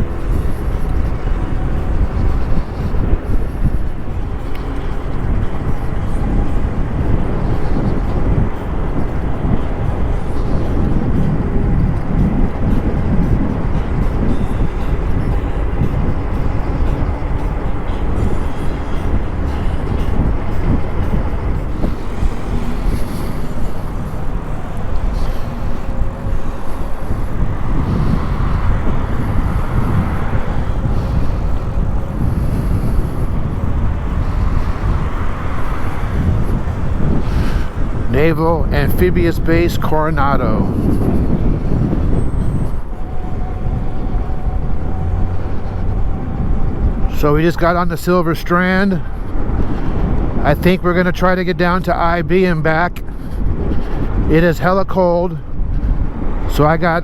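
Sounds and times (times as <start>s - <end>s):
road and tyre noise: 0.0s - 57.0s
wind rumble on microphone: 0.0s - 57.0s.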